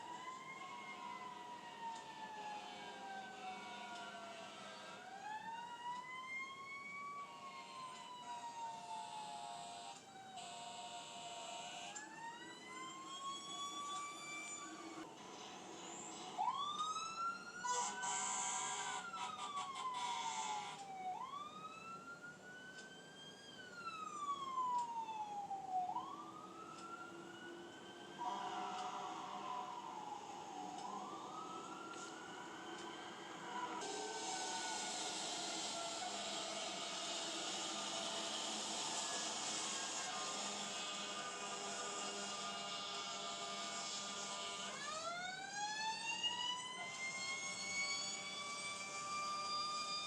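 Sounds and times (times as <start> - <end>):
fire truck siren wailing: 0.0 - 50.0.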